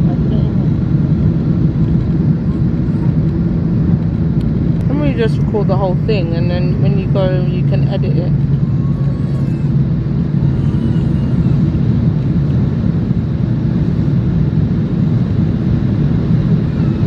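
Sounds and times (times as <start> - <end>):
hum: 0.0 - 17.0
jet engine drone: 0.0 - 17.0.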